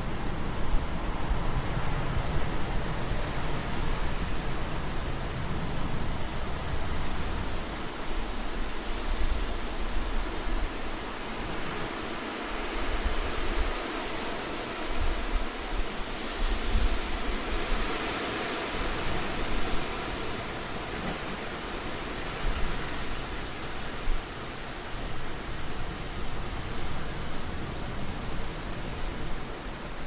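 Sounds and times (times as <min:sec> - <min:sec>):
low rumbling wind gusts: 0:00.0 - 0:30.0
wind rushing hiss: 0:00.0 - 0:30.0.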